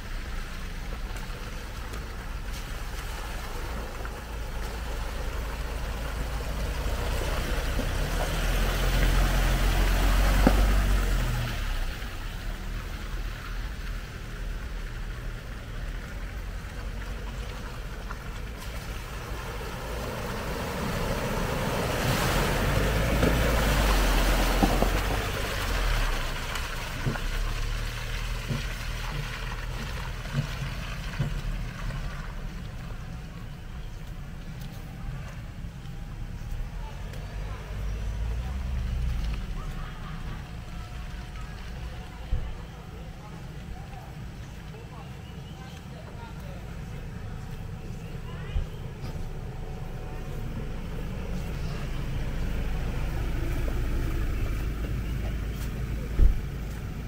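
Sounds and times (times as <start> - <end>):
pickup truck engines: 0.0 - 57.0
water splashing: 0.0 - 57.0.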